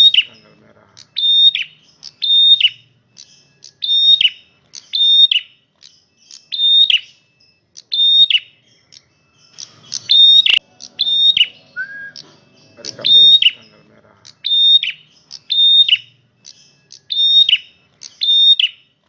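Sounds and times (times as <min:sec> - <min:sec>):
bird singing repeated high notes: 0:00.0 - 0:19.0.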